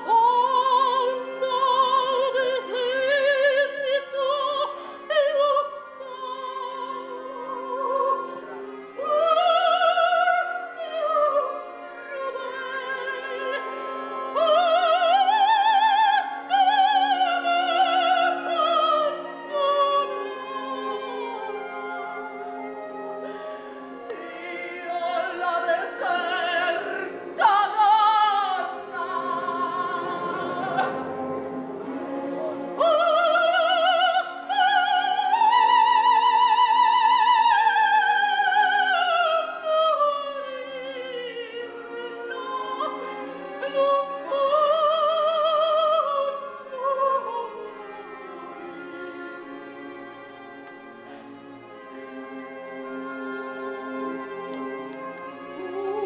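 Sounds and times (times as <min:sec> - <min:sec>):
operatic soprano singing: 0:00.0 - 0:56.0
orchestral accompaniment: 0:00.0 - 0:56.0.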